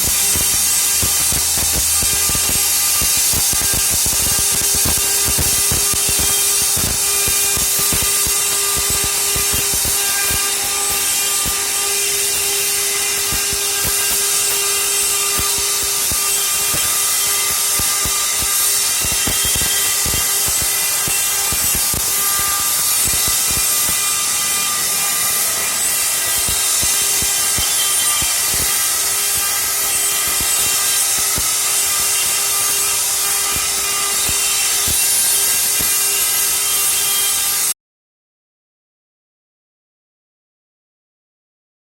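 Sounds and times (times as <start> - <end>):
stone carving machine whine: 0.0 - 37.8.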